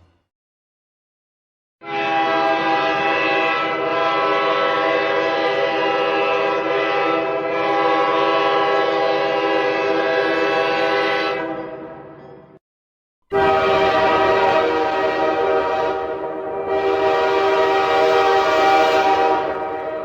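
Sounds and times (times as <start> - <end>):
train air horn blast: 1.8 - 12.0, 13.3 - 20.0.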